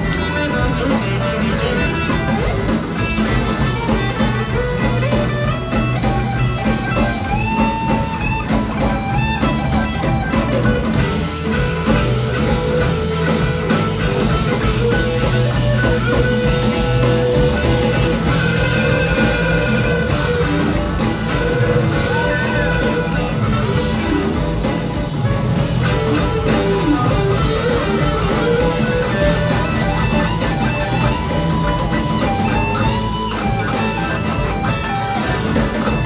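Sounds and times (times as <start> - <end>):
bending electric guitar notes: 0.0 - 36.0
blues-rock band playing: 0.0 - 36.0.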